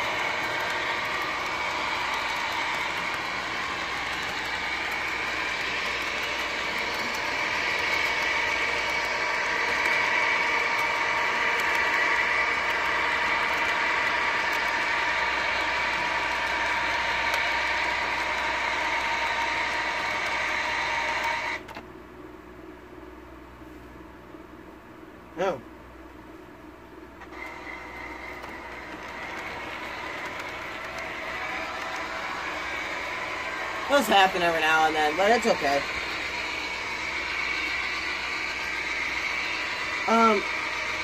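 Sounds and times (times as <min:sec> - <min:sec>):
model train rolling on track: 0:00.0 - 0:21.6, 0:27.2 - 0:41.0.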